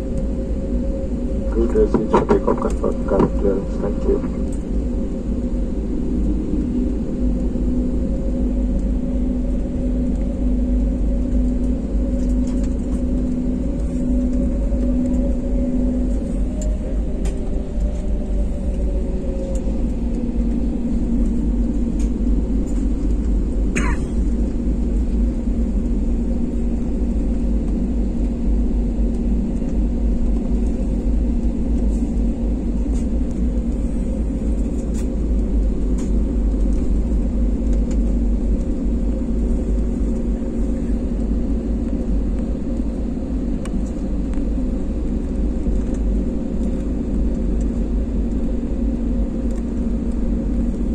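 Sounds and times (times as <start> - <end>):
jet engines humming: 0.0 - 50.9
low rumble: 0.0 - 50.9.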